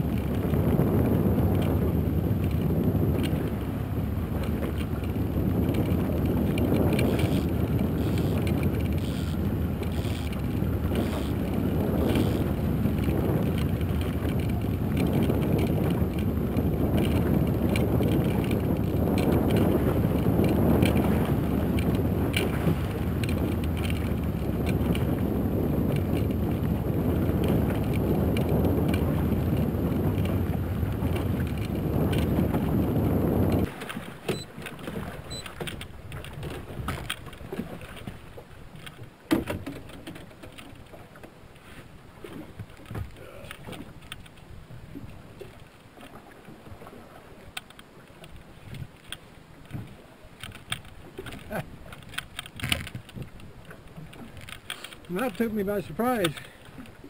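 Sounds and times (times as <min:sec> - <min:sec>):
wind buffeting microphone: 0:00.0 - 0:41.2, 0:48.2 - 0:57.0
outboard motor running: 0:00.0 - 0:57.0.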